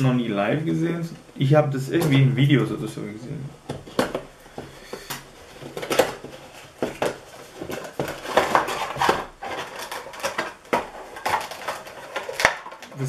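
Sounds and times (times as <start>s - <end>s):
plastic crinkling: 1.4s - 13.0s.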